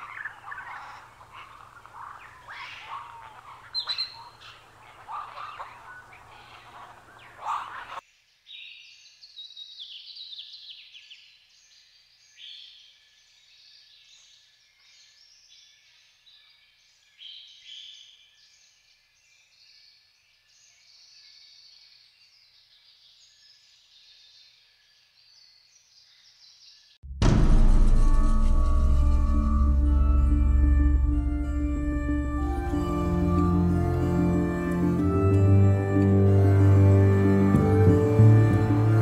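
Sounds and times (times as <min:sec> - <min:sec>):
birds chirping: 0:00.0 - 0:22.5, 0:29.4 - 0:39.0.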